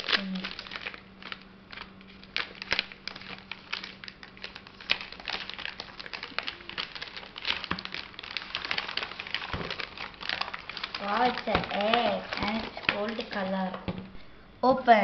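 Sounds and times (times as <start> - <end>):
gift wrapping crinkling: 0.0 - 14.0.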